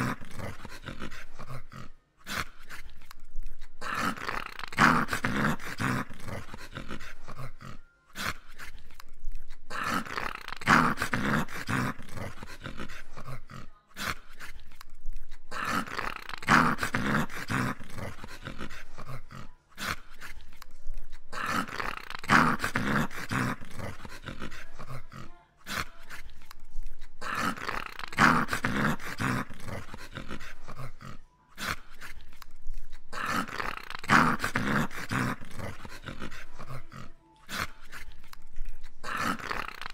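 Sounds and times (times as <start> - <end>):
dog play-growling: 0.0 - 39.9.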